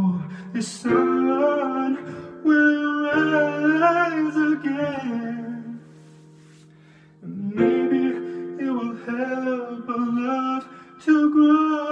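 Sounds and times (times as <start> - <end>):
man singing: 0.0 - 6.0, 7.2 - 11.9.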